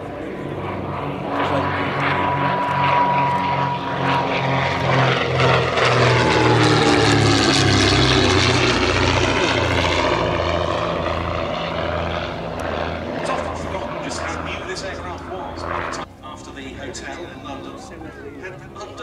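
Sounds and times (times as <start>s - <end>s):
propeller plane engines fly-past: 0.0s - 19.0s.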